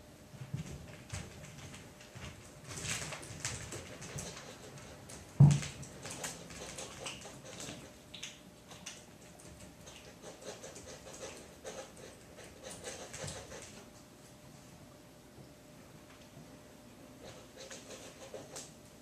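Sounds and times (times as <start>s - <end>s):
kitten paws scratching and tapping: 0.4s - 14.1s, 17.2s - 18.8s.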